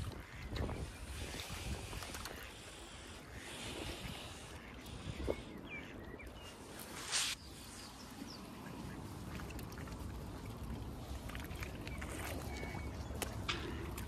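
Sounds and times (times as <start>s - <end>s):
small water sounds: 0.0s - 14.0s.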